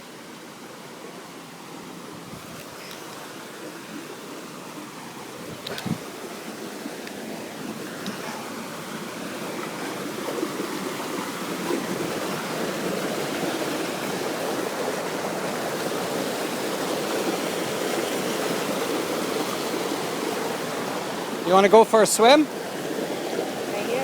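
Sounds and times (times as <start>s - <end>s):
waterfall stream rushing: 0.0s - 24.0s.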